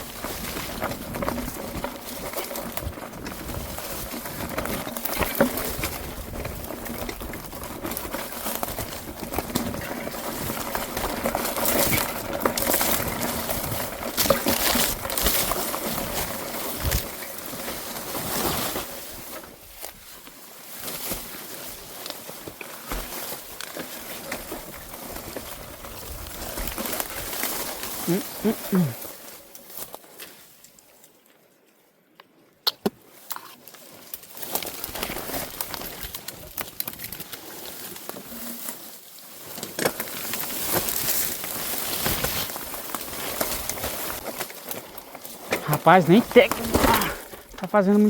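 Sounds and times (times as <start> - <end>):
footsteps through brush: 0.0 - 31.6, 33.0 - 48.0
leaves and twigs crackling: 0.0 - 31.8, 33.0 - 48.0.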